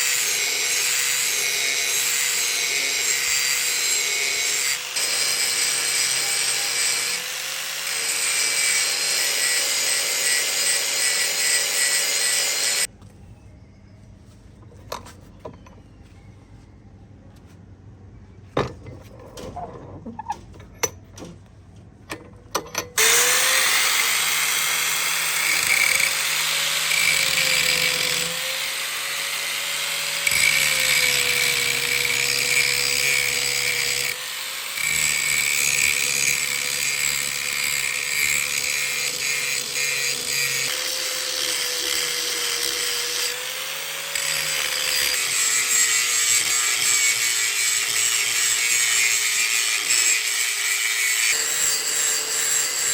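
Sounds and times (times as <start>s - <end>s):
electric grinder on metal: 0.0s - 12.9s, 23.0s - 52.9s.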